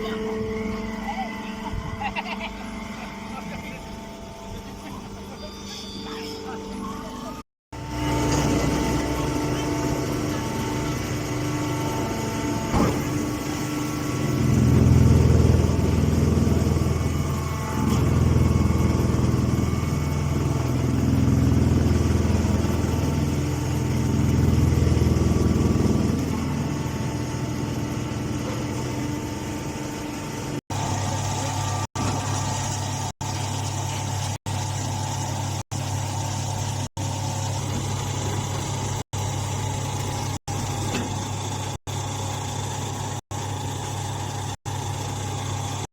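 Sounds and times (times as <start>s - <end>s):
hay baler machine hum: 0.0s - 45.9s.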